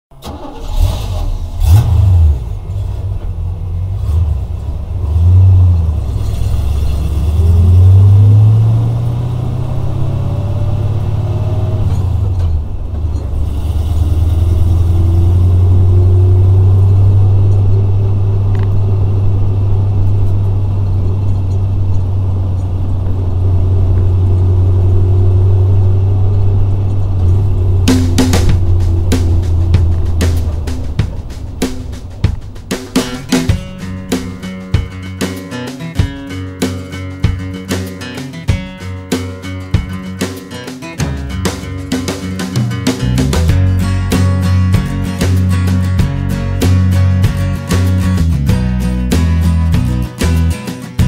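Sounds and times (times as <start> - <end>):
truck engine revving and idling: 0.1 - 51.0.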